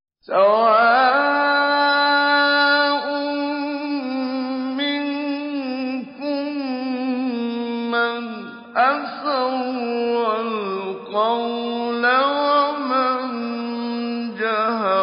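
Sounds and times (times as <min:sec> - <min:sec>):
man chanting recitation: 0:00.2 - 0:15.0.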